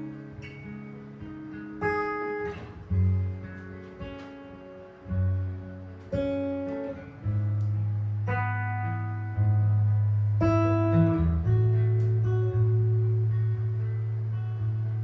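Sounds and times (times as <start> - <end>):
jazz guitar chords: 0.0 - 15.0.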